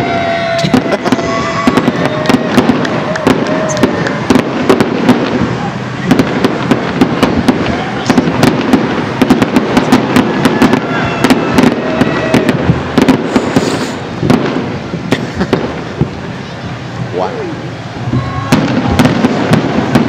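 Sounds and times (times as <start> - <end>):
firework bangs and crackles: 0.0 - 20.0
rumble of explosions: 0.0 - 20.0.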